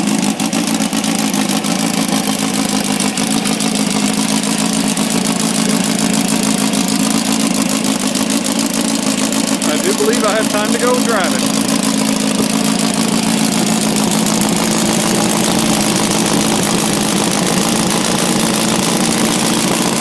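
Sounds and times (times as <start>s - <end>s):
dune buggy engine idling: 0.0s - 20.0s.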